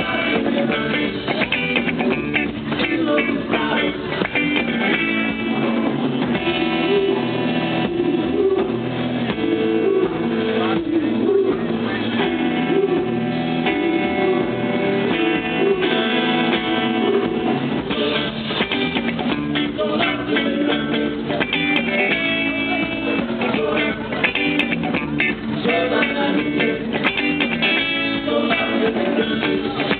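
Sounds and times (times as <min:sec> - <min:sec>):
live band with guitar: 0:00.0 - 0:29.9
person singing: 0:00.0 - 0:29.9.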